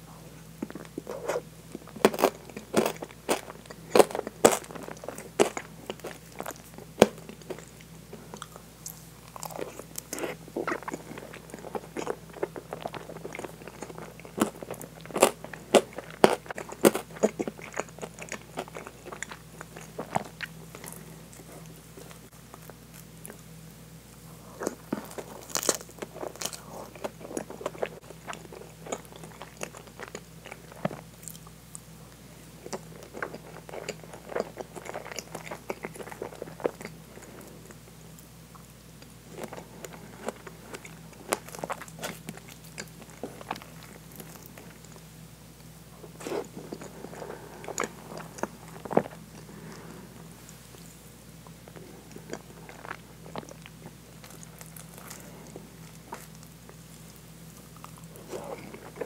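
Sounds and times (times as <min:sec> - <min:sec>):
wet chewing mouth sounds: 0:00.6 - 0:23.5, 0:24.4 - 0:37.8, 0:38.5 - 0:45.1, 0:46.0 - 0:59.0.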